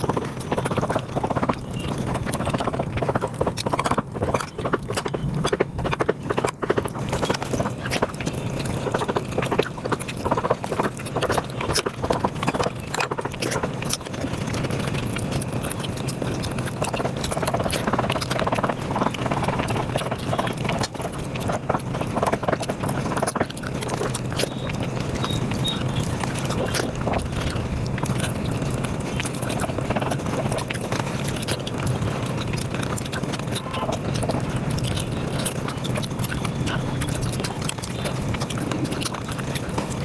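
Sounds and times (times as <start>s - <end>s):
sped-up chewing clicks: 0.0s - 40.0s.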